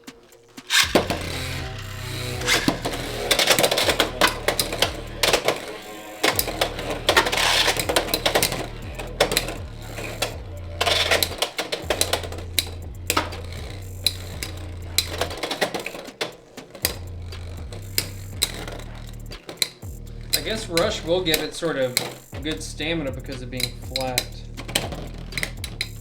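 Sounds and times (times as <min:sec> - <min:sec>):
background music with bass line: 0:00.0 - 0:26.0
spinning tops clicking and knocking: 0:00.0 - 0:26.0.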